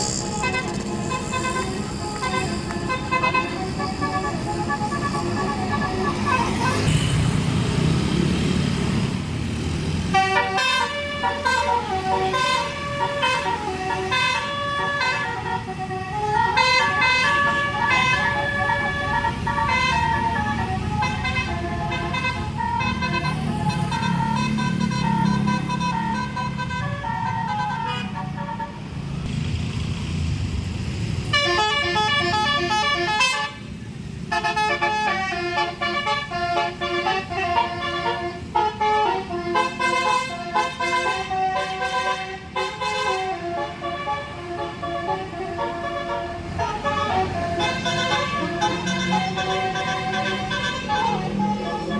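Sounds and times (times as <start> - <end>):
bus horn playing melody: 0.0 - 7.2, 10.0 - 29.0, 31.3 - 51.9
bus engine running: 0.0 - 51.9.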